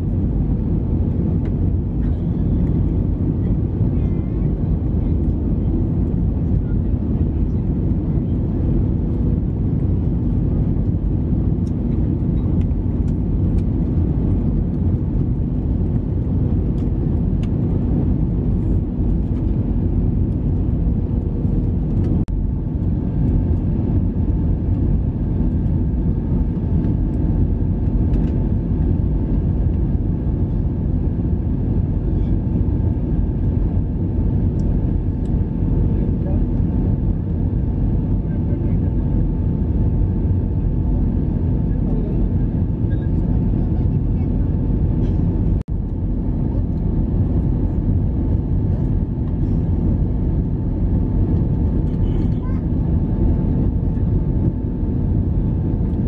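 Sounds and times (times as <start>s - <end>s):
airliner cabin engine rumble: 0.0s - 56.0s
faint hum: 0.0s - 56.0s.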